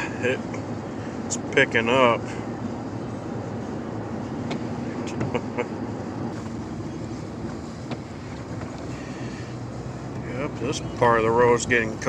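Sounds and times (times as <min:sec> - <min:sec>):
truck road and engine noise: 0:00.0 - 0:12.0.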